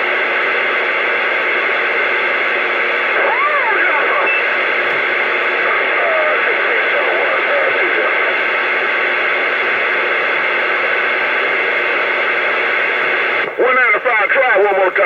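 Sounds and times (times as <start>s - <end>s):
radio static hiss: 0.0s - 15.0s
garbled radio voices: 2.6s - 15.0s.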